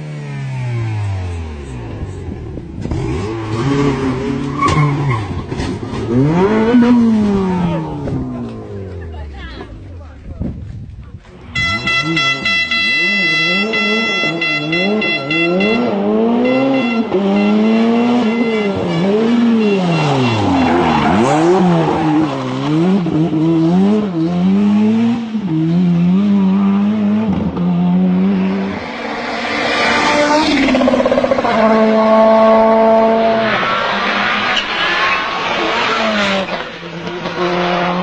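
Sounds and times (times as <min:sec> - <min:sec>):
rally car engine revving: 0:00.0 - 0:10.3, 0:11.2 - 0:38.0.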